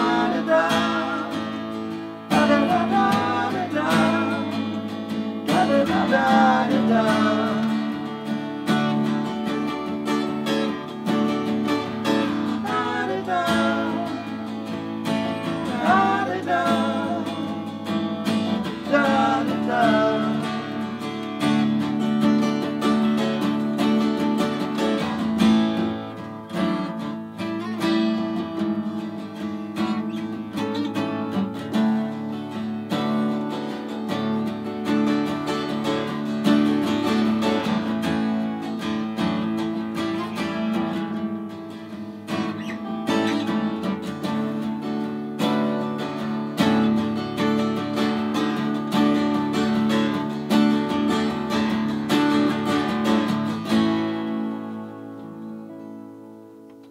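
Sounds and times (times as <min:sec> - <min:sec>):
acoustic guitars strumming: 0:00.0 - 0:56.9.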